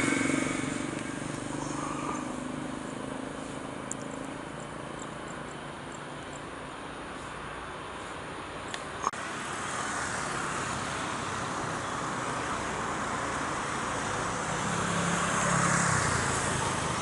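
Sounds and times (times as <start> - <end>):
rushing engine noise: 0.0 - 17.0.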